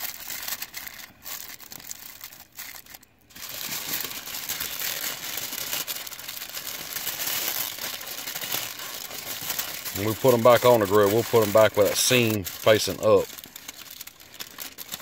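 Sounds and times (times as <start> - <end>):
aluminum foil crinkling: 0.0 - 15.0.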